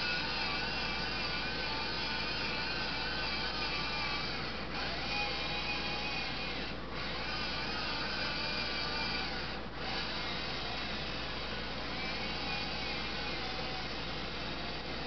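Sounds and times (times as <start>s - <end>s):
robot motors whining and whirring: 0.0s - 15.0s.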